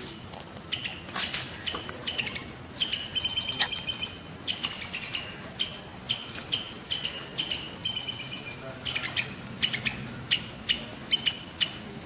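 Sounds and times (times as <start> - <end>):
bird chirping: 1.6 - 11.8.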